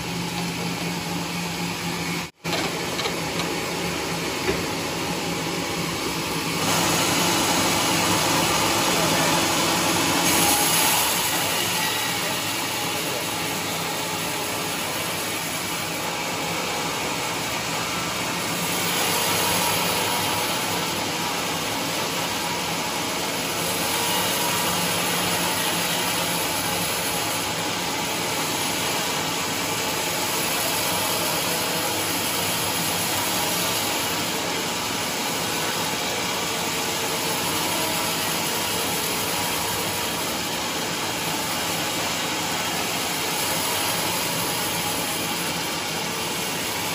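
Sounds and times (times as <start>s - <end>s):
band saw cutting log: 5.9s - 46.9s.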